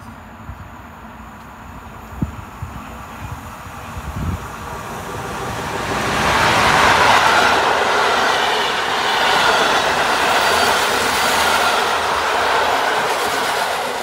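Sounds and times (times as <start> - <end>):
train wheels on rails: 0.0 - 14.0
passenger train passing: 0.1 - 14.0.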